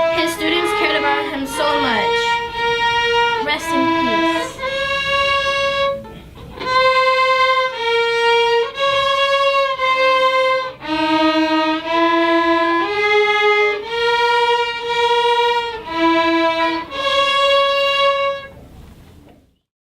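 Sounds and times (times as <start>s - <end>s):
solo violin slow melody: 0.0s - 18.8s.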